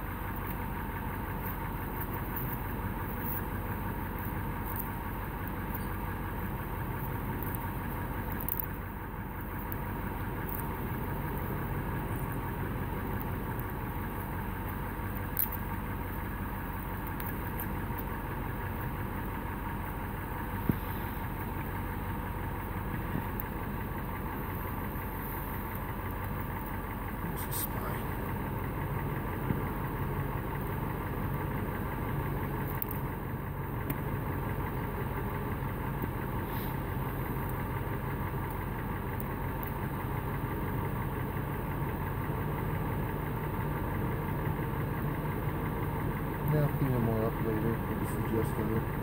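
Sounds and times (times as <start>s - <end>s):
vehicle engine idling: 0.0s - 49.0s.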